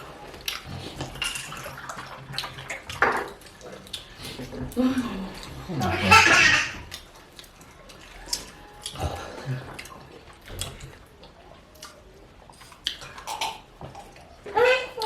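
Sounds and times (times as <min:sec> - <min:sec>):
slurping and chewing: 0:00.0 - 0:06.1, 0:06.7 - 0:15.0.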